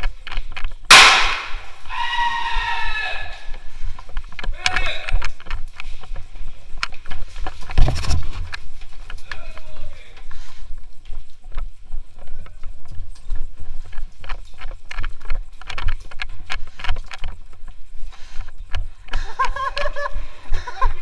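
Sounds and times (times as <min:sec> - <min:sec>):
footsteps: 0:00.0 - 0:21.0.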